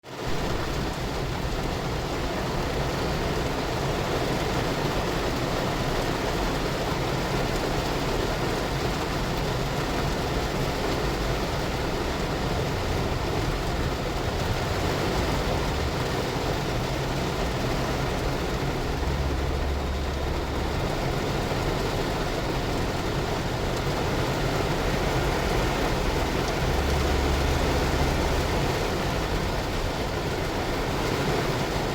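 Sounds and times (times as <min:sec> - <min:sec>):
rain on car glass: 0:00.1 - 0:31.9.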